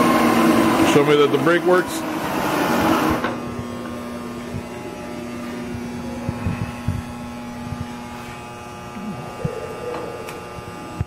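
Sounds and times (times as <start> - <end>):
milling machine humming: 0.0 - 11.0.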